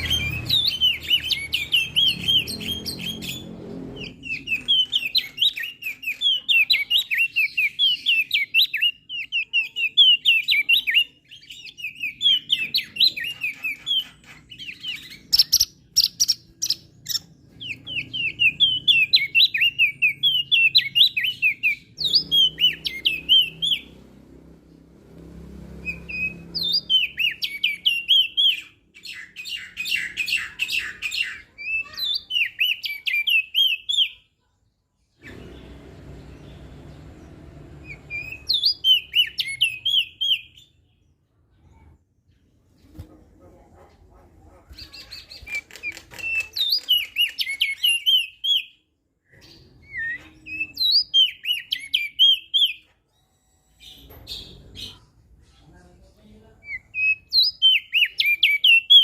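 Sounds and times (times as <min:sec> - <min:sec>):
bird singing chattering song: 0:00.0 - 0:34.4, 0:35.0 - 0:43.0, 0:43.9 - 0:59.0.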